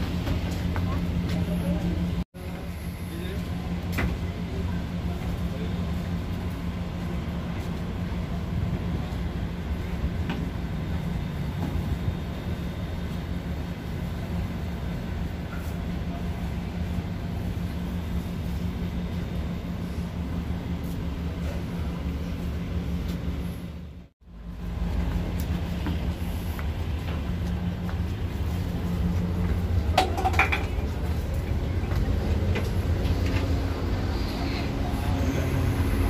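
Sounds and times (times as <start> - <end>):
ferry engines droning: 0.0 - 36.0.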